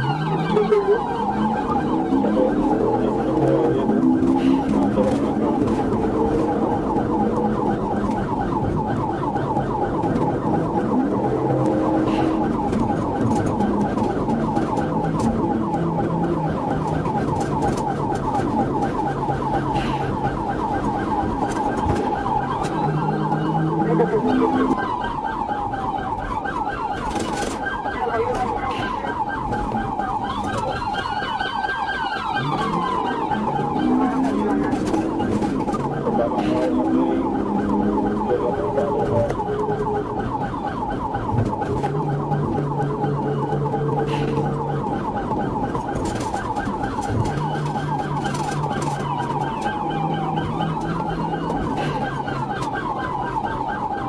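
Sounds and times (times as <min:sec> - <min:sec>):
engine and road noise: 0:00.0 - 0:54.0
police siren yelp: 0:00.0 - 0:54.0
rising and falling siren wails: 0:00.0 - 0:54.0.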